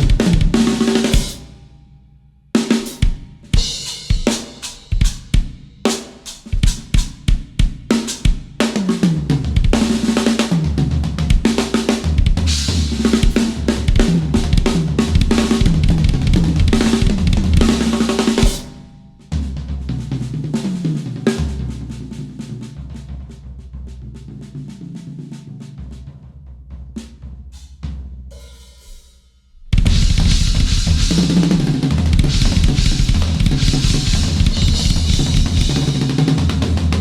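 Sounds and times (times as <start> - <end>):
drum kit playing solo: 0.0 - 1.9, 2.5 - 37.0.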